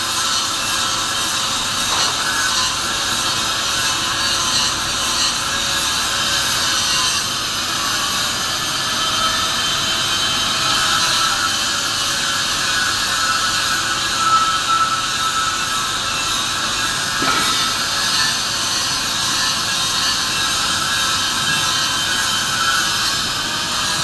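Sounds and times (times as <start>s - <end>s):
angle grinder grinding steel: 0.1s - 24.0s.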